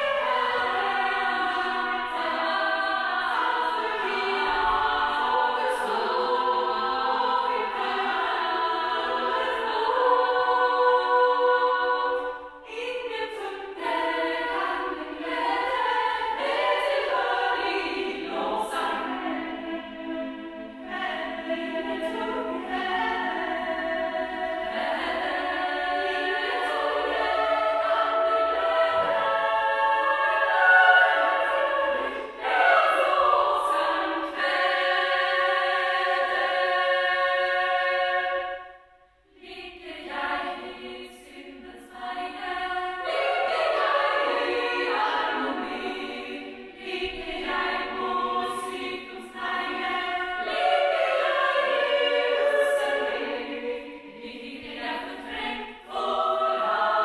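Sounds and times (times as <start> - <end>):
women's choir singing: 0.0 - 57.0.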